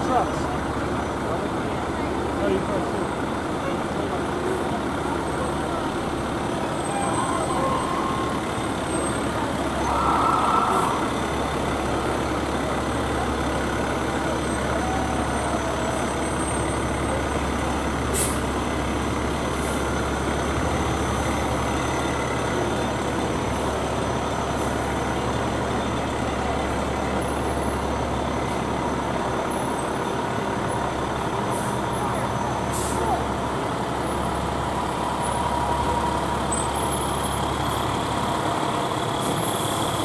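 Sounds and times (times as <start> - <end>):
diesel engines running: 0.0 - 40.0
road noise: 0.0 - 40.0.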